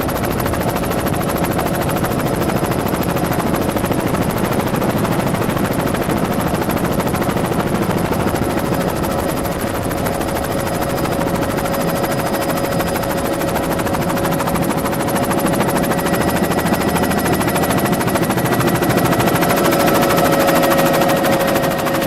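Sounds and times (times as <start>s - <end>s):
helicopter rotor beat: 0.0s - 22.0s
high-pitched turbine whine: 0.0s - 22.0s.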